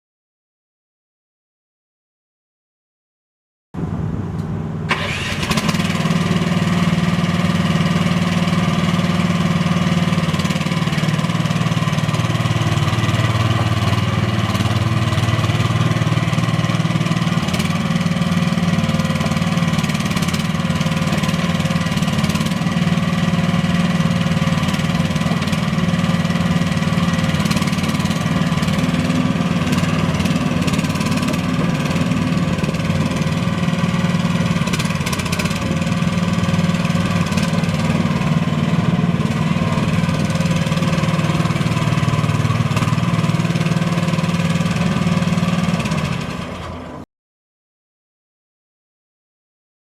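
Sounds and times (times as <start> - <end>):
excavator engine starting and idling: 3.8 - 47.0.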